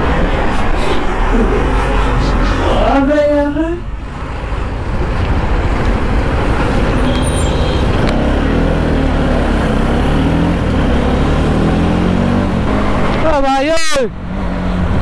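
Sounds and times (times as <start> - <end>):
trucks passing: 0.0 - 15.0.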